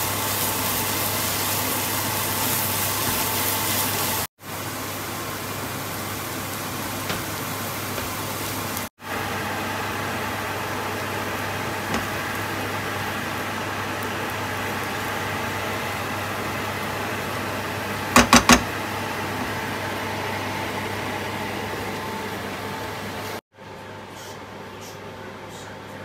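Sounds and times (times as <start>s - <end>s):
food frying with steady hiss: 0.0s - 23.4s.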